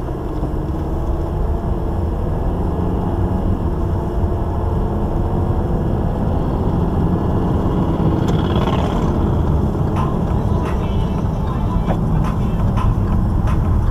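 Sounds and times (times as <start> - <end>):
car road rumble: 0.0 - 13.9.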